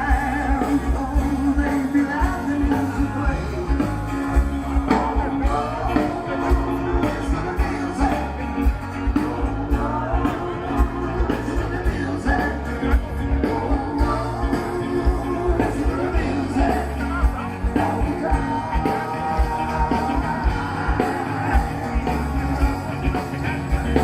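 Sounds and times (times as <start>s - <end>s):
rock and roll song from vinyl: 0.0s - 24.0s.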